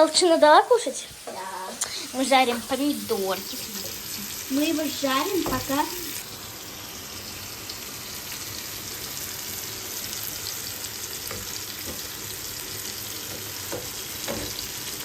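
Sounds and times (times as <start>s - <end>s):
tomatoes sizzling in a pan: 0.0s - 15.0s.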